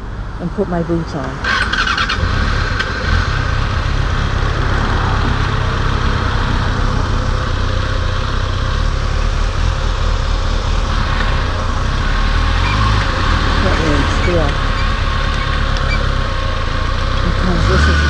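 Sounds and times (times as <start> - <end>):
motorcycle engine running: 1.4 - 18.0.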